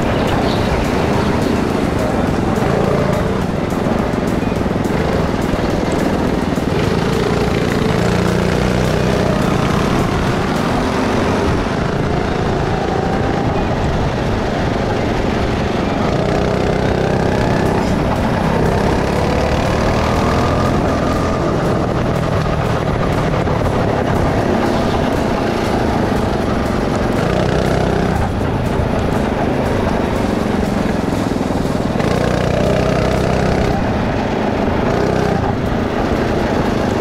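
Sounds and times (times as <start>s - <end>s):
go-kart engine revving: 0.0s - 37.0s
steady rushing noise: 0.0s - 37.0s.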